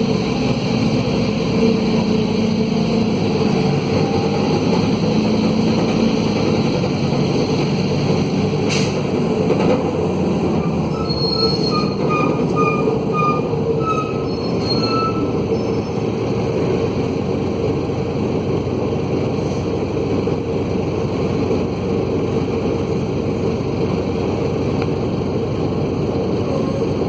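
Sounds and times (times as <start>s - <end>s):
diesel bus engine running: 0.0s - 27.0s.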